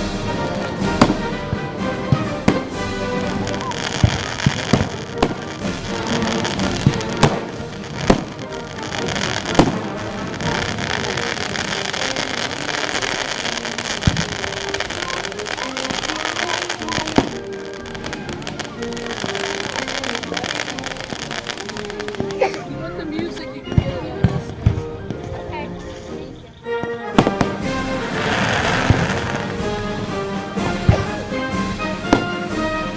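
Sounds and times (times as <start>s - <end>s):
fireworks bangs: 0.0s - 22.5s, 26.8s - 32.9s
music: 0.0s - 32.9s.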